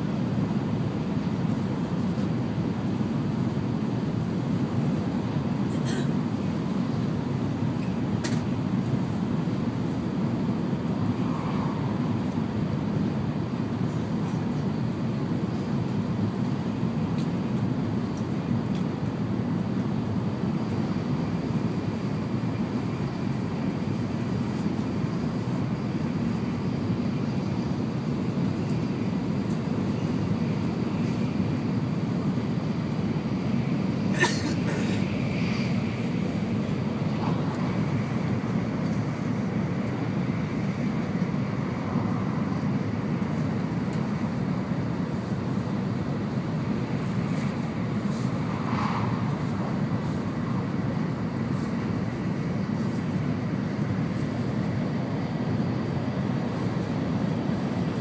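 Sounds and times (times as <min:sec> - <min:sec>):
train interior rumble: 0:00.0 - 0:58.0.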